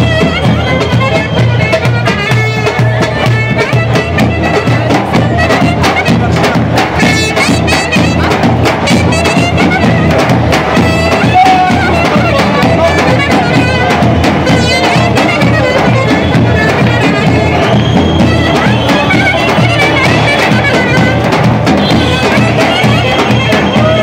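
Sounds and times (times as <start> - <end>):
clarinet melody: 0.0 - 24.0
drum struck with a stick: 0.0 - 24.0.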